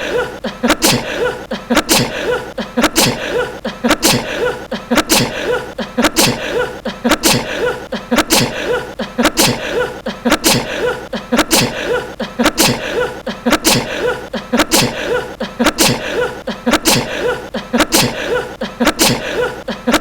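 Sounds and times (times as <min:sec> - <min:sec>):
young man sneezing: 0:00.0 - 0:20.0.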